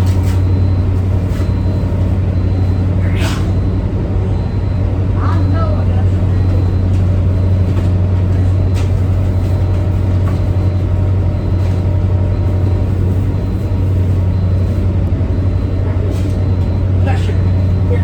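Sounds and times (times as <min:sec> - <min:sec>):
diesel machinery drone: 0:00.0 - 0:18.0.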